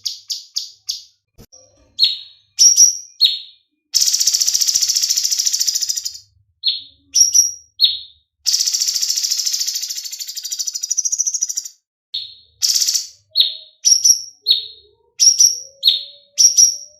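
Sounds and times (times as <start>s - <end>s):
songbird whistled notes: 2.0s - 16.9s.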